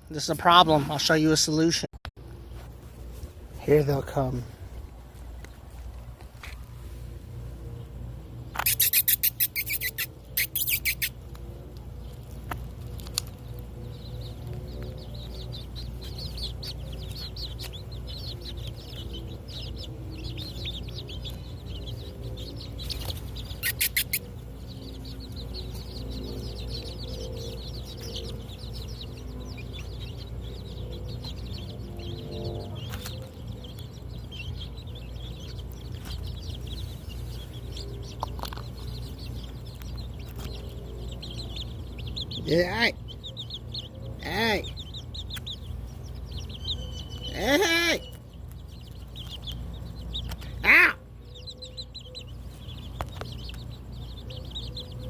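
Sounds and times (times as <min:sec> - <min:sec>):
chickens clucking and peeping: 0:02.5 - 0:55.0.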